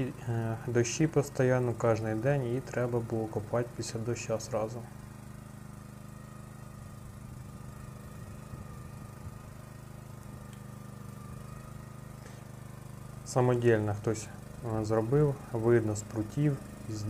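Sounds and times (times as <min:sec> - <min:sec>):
small tractor engine running: 0:00.0 - 0:17.0.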